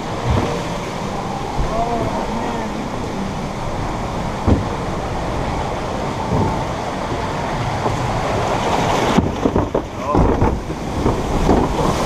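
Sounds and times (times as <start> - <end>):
log boat running along channel: 0.0 - 12.0
rushing water: 0.0 - 12.0.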